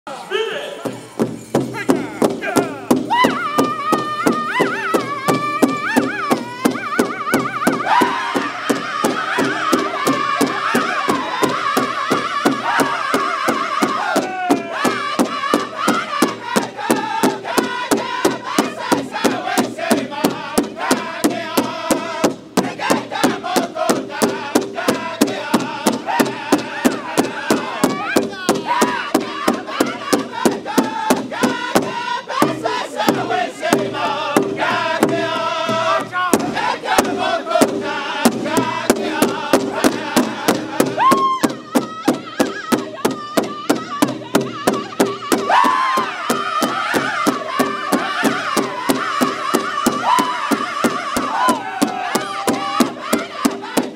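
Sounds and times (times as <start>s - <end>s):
large bass drum steady beat: 0.8s - 53.9s
men chanting in high voices: 1.7s - 53.9s.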